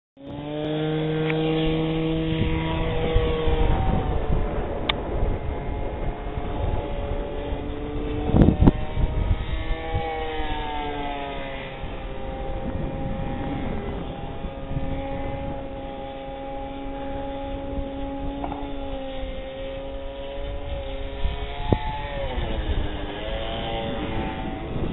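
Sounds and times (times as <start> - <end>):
model airplane motor: 0.2 - 24.9
wind rumble on microphone: 0.2 - 24.9.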